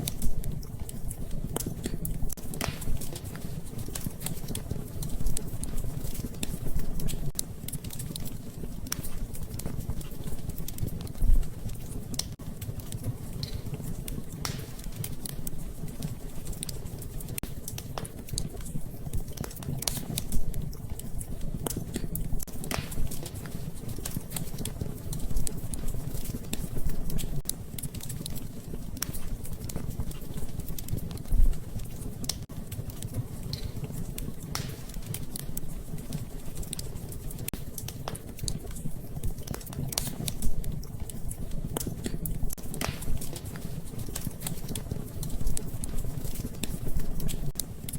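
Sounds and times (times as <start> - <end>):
gentle rain patter: 0.0 - 47.9
sharp fire pops: 0.0 - 47.9
wood fire crackling: 0.0 - 47.9.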